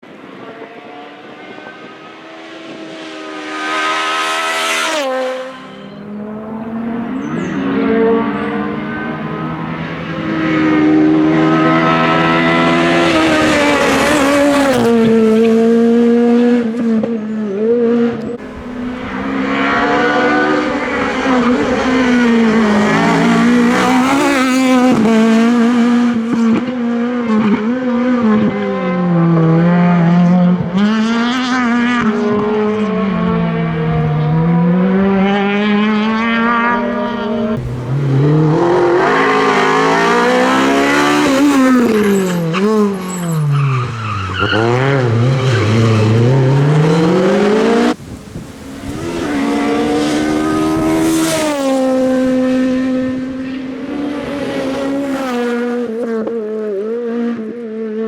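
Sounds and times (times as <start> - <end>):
rally car engine at high revs: 0.1 - 58.0.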